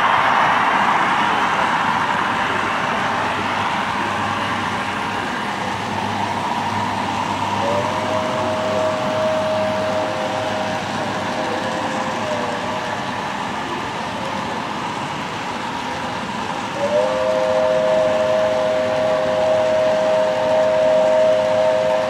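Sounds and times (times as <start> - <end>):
hubbub: 0.0 - 18.7
model trains running: 0.0 - 22.0.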